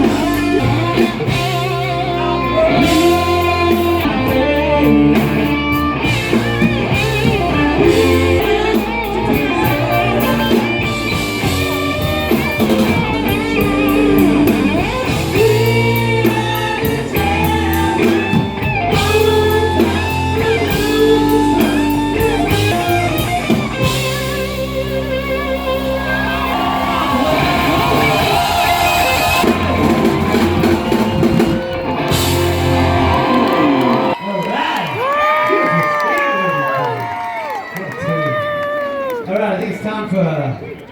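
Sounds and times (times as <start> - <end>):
electric guitar: 0.0 - 34.2
live rock band playing: 0.0 - 34.2.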